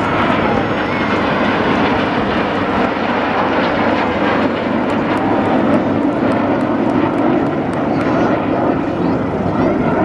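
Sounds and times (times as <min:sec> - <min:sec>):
jets roaring overhead: 0:00.0 - 0:10.0.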